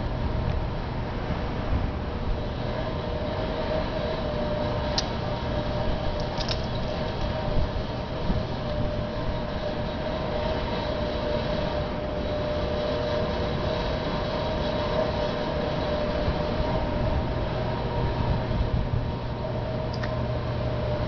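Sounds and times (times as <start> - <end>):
city street mechanical drone: 0.0 - 21.0.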